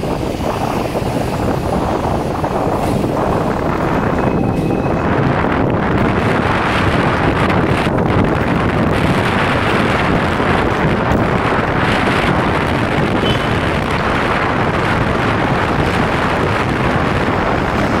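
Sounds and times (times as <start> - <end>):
tram running on rails: 0.0 - 18.0
wind buffeting microphone: 0.0 - 18.0.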